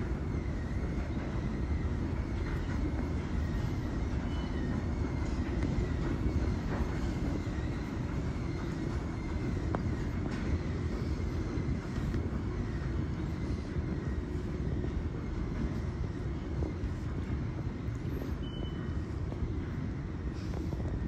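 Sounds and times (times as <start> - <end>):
subway station low rumble: 0.0 - 21.0.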